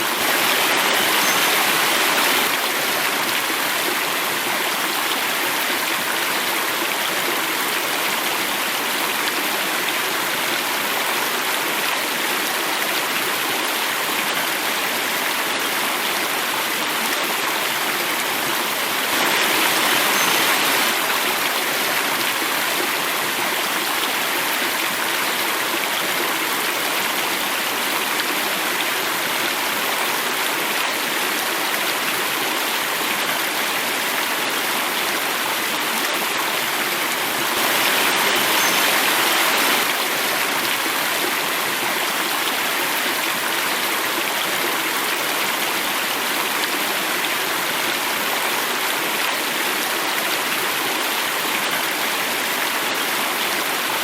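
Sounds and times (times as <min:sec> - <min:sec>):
water cascading: 0:00.0 - 0:54.0.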